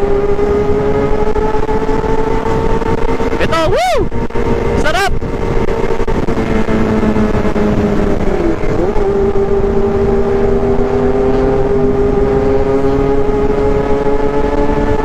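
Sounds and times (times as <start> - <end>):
motorcycle engine buzzing at speed: 0.0 - 15.0.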